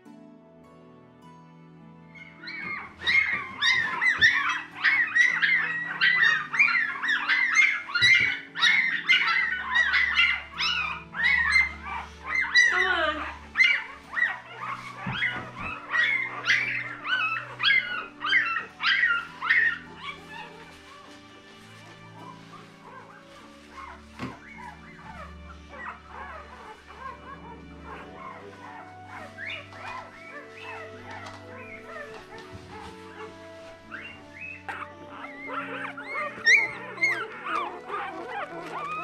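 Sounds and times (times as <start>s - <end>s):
puppies crying in high squeals: 2.1s - 39.0s.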